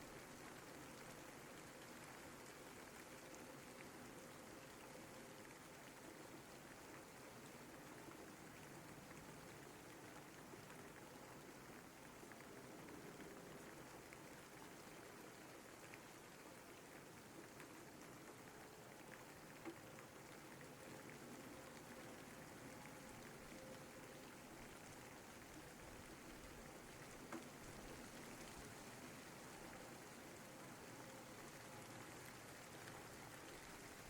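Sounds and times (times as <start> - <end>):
faint rain hiss: 0.0 - 34.0.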